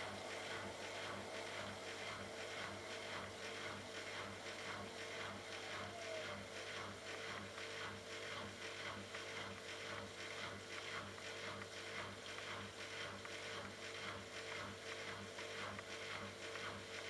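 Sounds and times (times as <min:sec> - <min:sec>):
washing machine humming and pulsing: 0:00.0 - 0:17.0.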